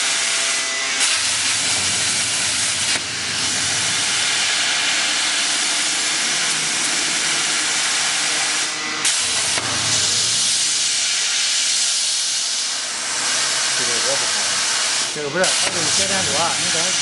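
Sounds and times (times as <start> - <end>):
plasma cutter hissing: 0.0 - 17.0.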